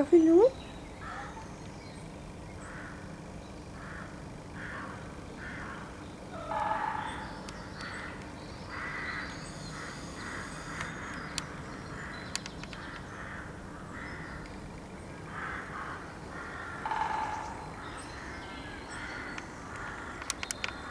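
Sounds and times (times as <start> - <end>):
bird calling: 0.0 - 20.9.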